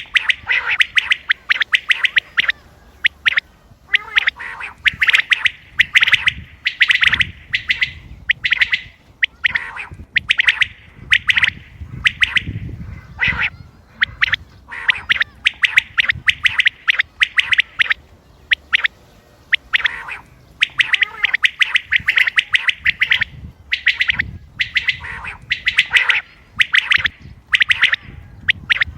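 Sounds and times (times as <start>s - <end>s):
quail calling: 0.0s - 28.9s.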